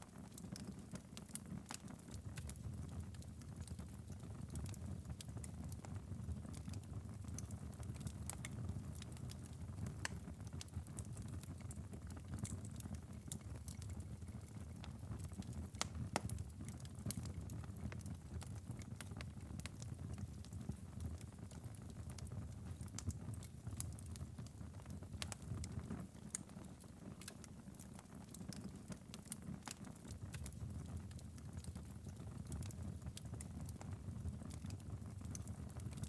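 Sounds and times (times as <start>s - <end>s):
wood fire snaps and pops: 0.0s - 36.0s.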